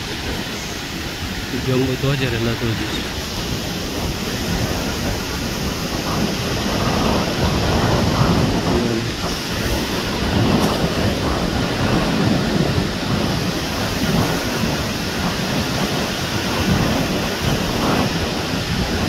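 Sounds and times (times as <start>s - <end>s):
sea waves washing ashore: 0.0s - 19.0s
wind buffeting microphone: 0.0s - 19.0s.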